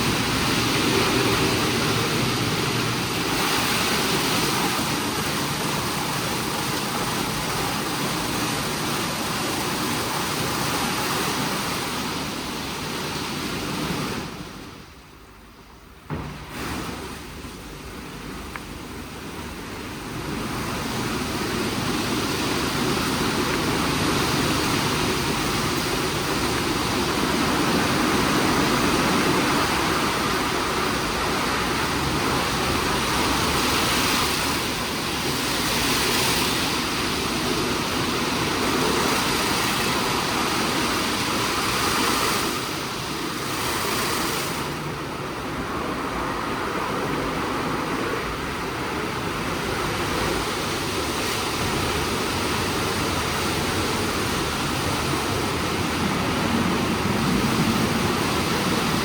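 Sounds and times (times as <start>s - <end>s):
car wash machinery and spray hissing: 0.0s - 59.0s.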